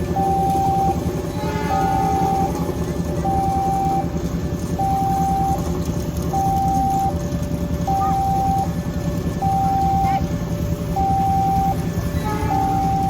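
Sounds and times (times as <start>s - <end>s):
level crossing warning alarm: 0.0s - 13.0s.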